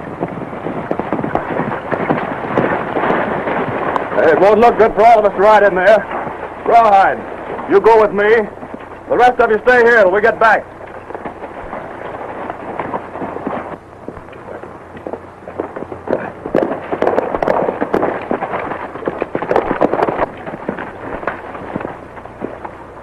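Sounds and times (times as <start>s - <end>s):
film soundtrack hiss: 0.0s - 23.0s
horses galloping: 0.0s - 23.0s.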